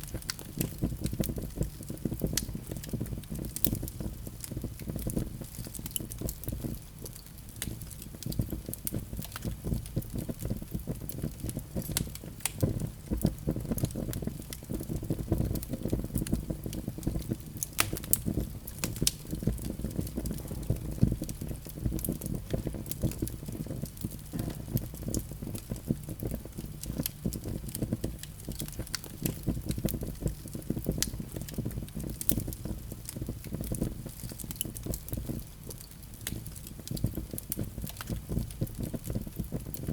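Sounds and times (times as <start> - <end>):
fire crackles and pops: 0.0 - 39.9
fire flames fluttering: 0.0 - 39.9.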